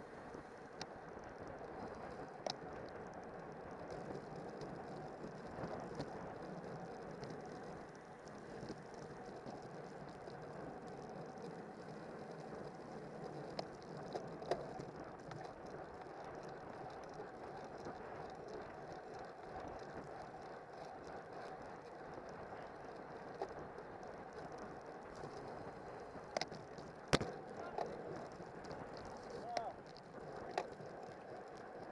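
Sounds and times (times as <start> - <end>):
bicycle tyre noise: 0.0 - 31.9.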